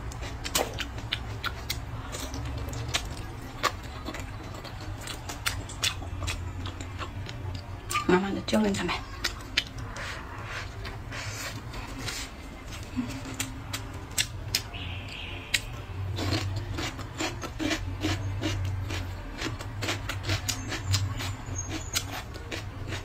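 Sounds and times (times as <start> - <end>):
chewing and biting: 0.0 - 8.1, 8.7 - 23.0.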